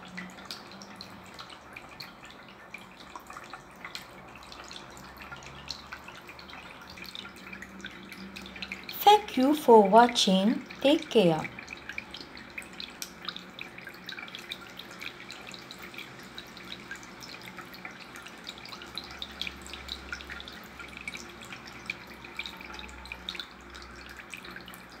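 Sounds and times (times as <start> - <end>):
fountain water trickling: 0.0 - 25.0.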